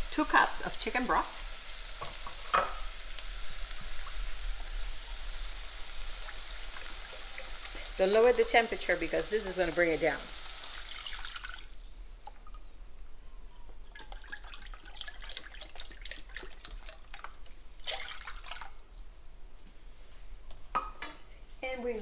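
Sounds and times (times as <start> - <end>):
broth bubbling in a pot: 0.0 - 20.4.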